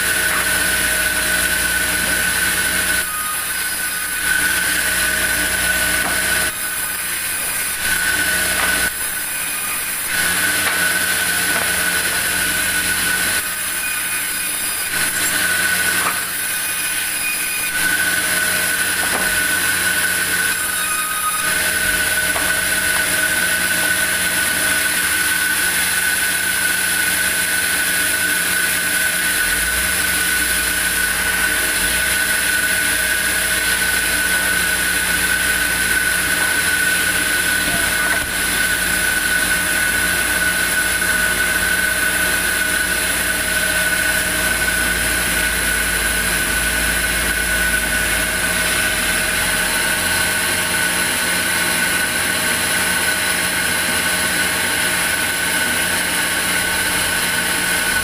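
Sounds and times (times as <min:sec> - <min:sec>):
band saw whining: 0:00.0 - 0:58.0.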